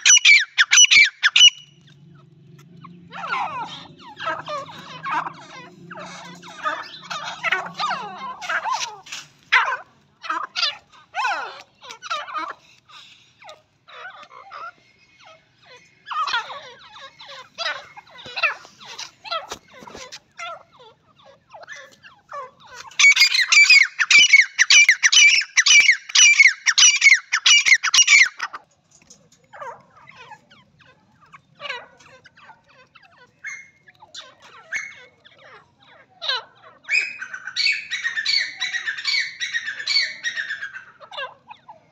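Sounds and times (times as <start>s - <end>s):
francolins calling: 0.0s - 28.6s, 29.5s - 41.9s.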